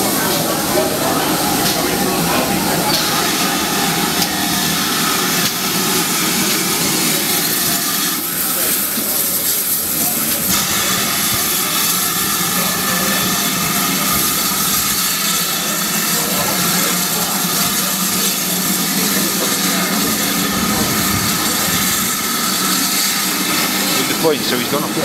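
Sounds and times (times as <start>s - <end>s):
steam locomotive hissing: 0.0s - 25.0s.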